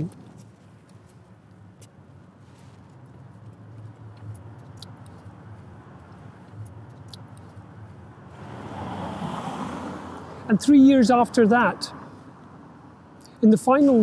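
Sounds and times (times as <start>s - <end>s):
city traffic hum: 0.0s - 14.0s
vehicle approaching: 0.0s - 14.0s.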